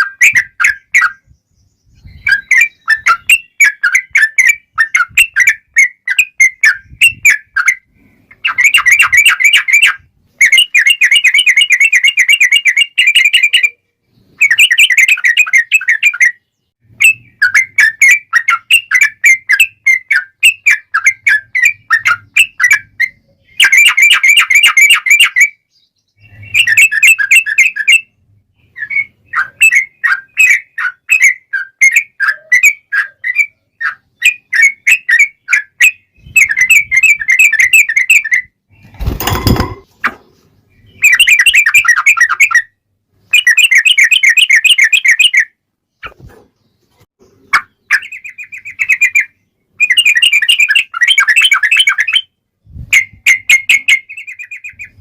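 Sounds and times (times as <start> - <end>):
bird singing rapid chirps: 0.0 - 39.8, 40.7 - 52.3, 53.0 - 55.0.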